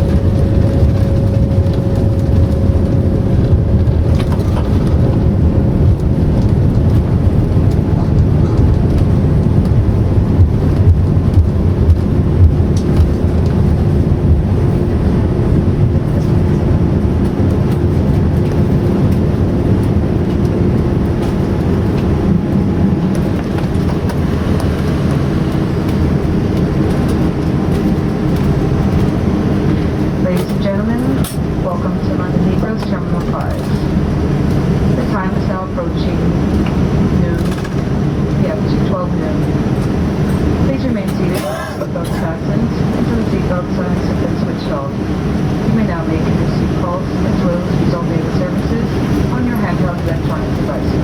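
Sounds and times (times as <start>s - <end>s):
jet engines and airflow rumble: 0.0s - 51.0s.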